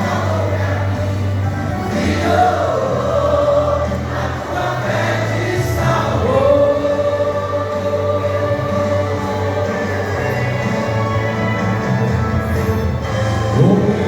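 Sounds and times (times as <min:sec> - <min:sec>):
choir singing a hymn: 0:00.0 - 0:14.0
low bass accompaniment: 0:00.0 - 0:14.0.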